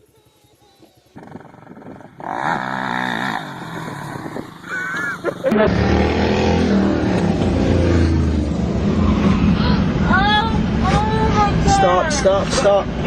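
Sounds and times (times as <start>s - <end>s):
off-road motorcycle engines revving: 1.0s - 13.0s.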